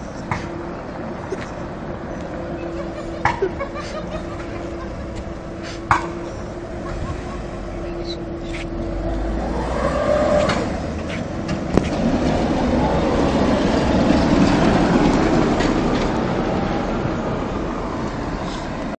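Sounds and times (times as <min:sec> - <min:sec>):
tram wheels rumbling on rails: 0:00.0 - 0:18.9.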